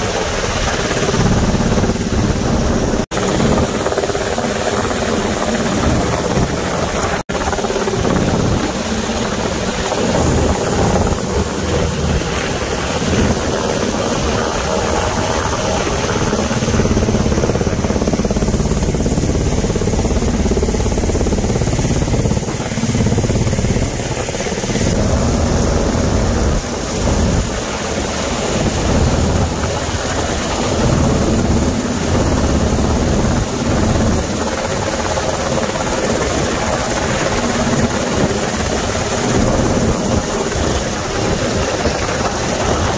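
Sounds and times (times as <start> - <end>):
helicopter hovering: 0.0 - 42.9.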